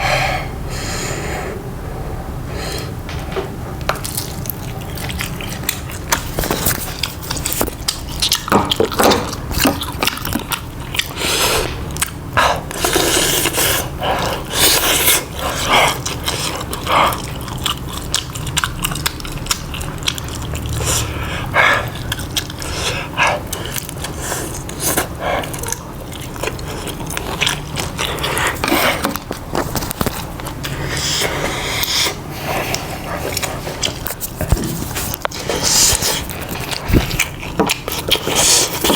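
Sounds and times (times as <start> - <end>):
chewing crunchy food: 3.8 - 38.9.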